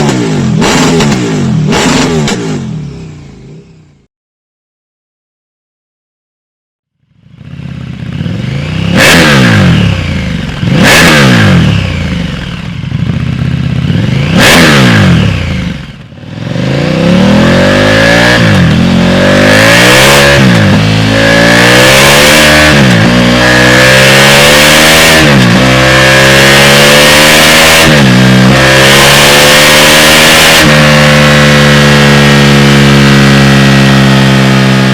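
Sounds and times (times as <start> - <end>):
motorcycle accelerating through gears: 0.0 - 4.1, 7.1 - 34.9
motorcycle engine revving: 0.0 - 4.1, 7.1 - 34.9.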